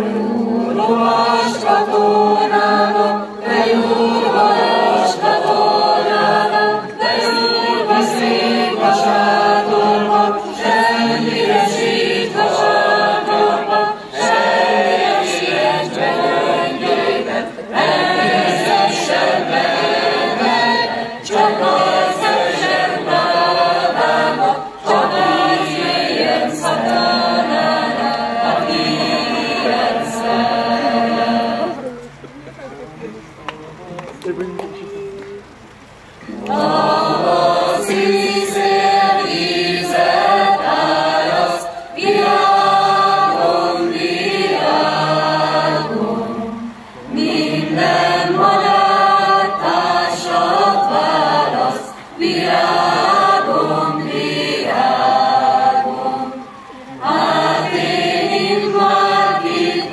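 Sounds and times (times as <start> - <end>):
choir singing a cappella: 0.0 - 32.2, 36.2 - 59.9.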